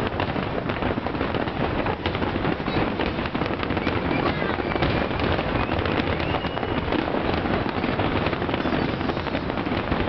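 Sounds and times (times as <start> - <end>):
fireworks bursting and crackling: 0.0 - 10.0.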